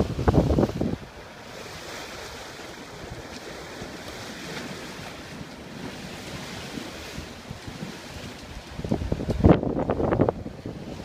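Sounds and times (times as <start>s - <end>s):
water rushing along a hull: 0.0s - 11.0s
wind on microphone: 0.0s - 11.0s.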